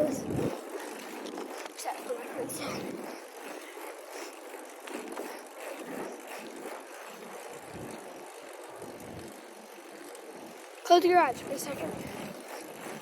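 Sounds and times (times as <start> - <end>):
wind on microphone: 0.0 - 9.4, 11.3 - 13.0
bicycle tyres rolling on pavement: 0.0 - 13.0.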